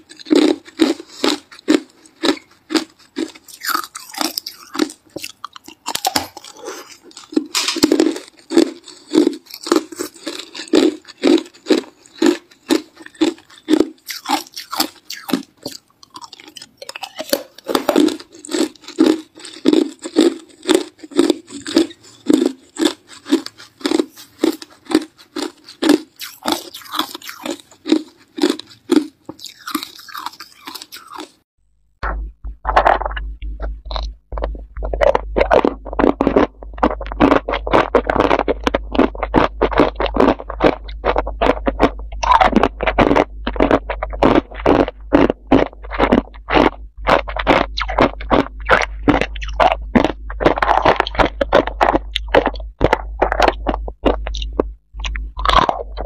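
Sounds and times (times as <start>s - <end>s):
ice crunching between teeth: 0.0s - 31.4s, 32.7s - 56.0s.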